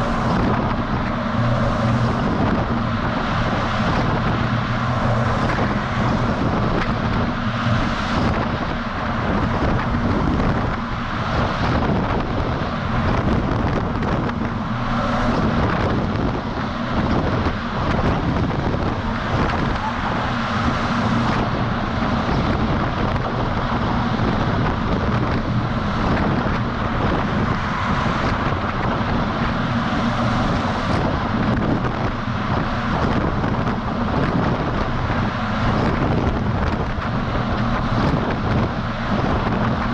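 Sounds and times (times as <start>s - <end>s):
truck diesel engine running: 0.0s - 39.9s
wind rushing over microphone: 0.0s - 39.9s.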